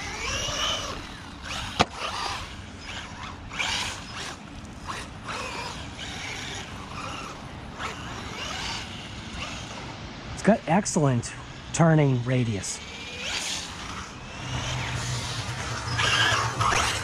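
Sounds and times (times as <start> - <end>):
drivetrain and tyre noise: 0.0 - 17.0
rc car motor whining: 0.0 - 17.0.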